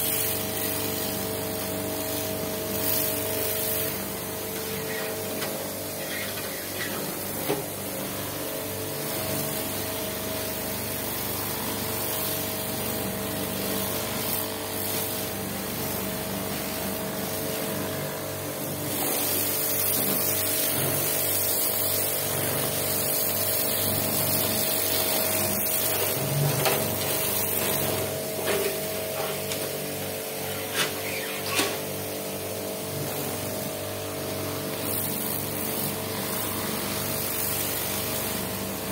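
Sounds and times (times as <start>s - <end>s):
pressure washer pump humming: 0.0s - 38.9s
water jet hissing on metal plates: 0.0s - 38.9s.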